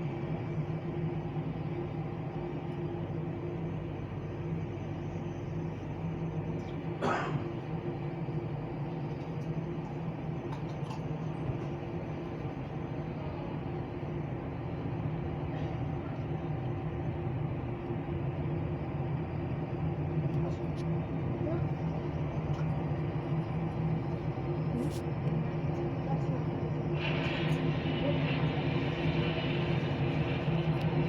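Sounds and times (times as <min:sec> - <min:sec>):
engine drone: 0:00.0 - 0:31.0.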